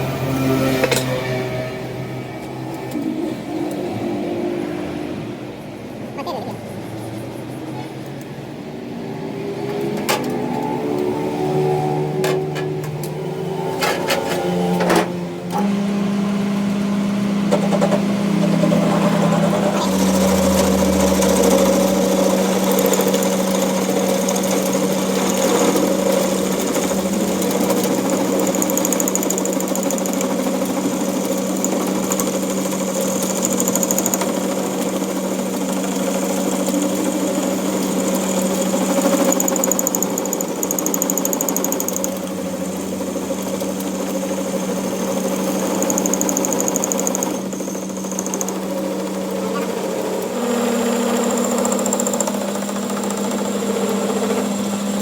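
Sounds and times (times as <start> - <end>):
machine motor hum: 8.0 - 55.0.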